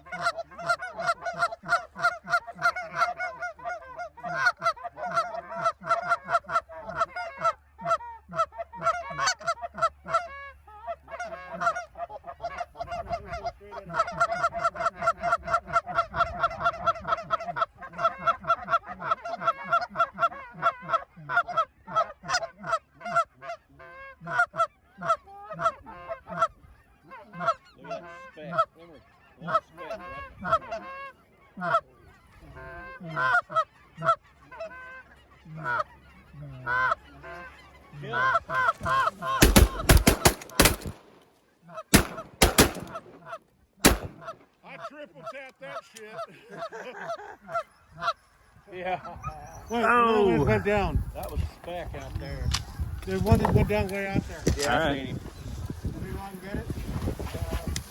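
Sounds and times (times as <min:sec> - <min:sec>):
geese honking: 0:00.0 - 0:49.1.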